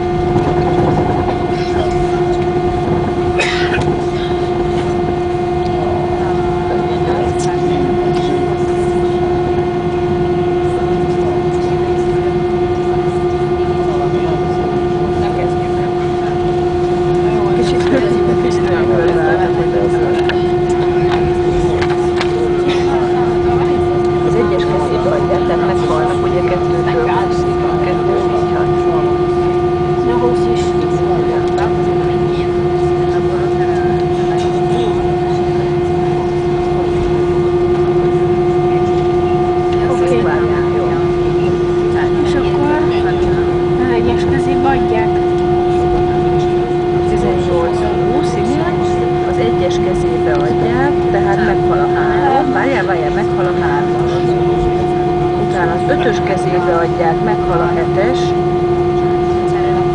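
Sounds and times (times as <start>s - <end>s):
aircraft cabin engine hum: 0.0s - 59.9s.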